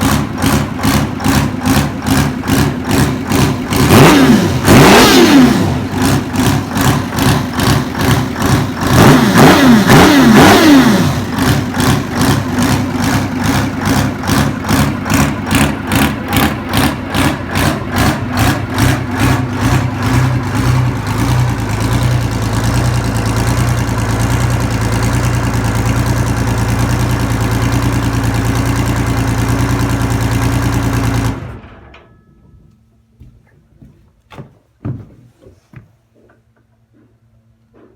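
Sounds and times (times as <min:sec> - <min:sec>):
diesel engine revving and idling: 0:00.0 - 0:31.6.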